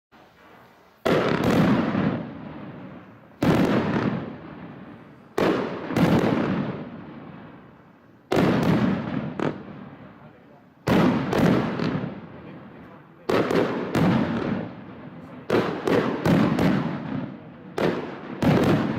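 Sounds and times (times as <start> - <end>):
firework bangs: 0.2 - 18.9.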